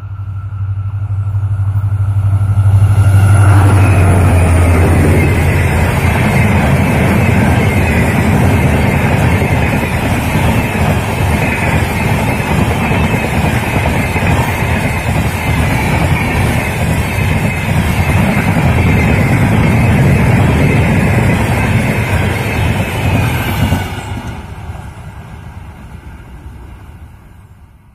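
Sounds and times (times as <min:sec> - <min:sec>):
train passing at speed: 0:00.0 - 0:27.9.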